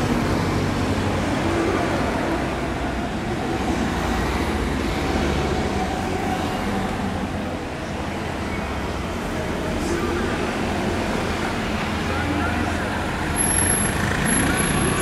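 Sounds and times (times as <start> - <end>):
car engines humming: 0.0 - 15.0
tyres on road: 0.0 - 15.0.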